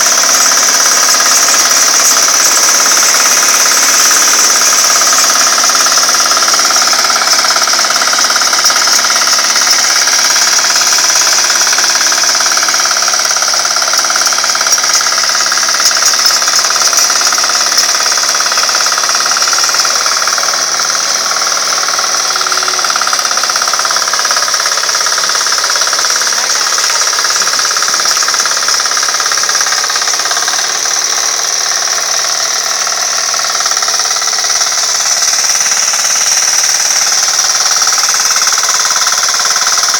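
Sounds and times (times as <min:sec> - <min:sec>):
rotary tiller churning soil: 0:00.0 - 0:39.9
small engine knocking: 0:00.0 - 0:39.9.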